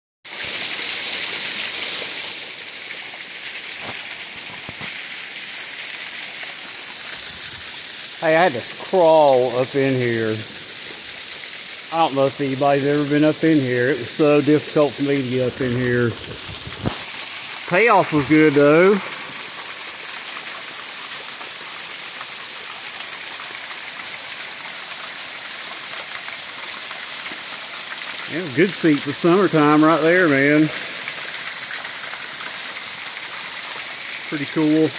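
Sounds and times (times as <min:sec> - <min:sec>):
waterfall splashing: 0:00.3 - 0:34.9.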